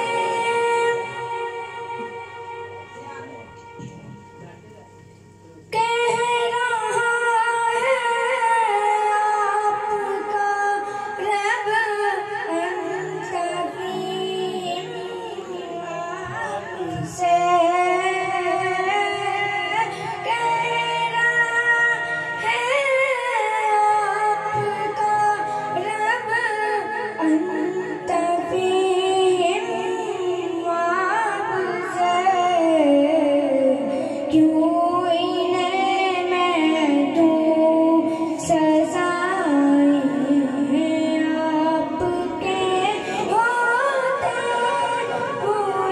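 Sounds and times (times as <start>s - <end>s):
boy singing into microphone: 0.0s - 4.5s, 5.6s - 45.9s.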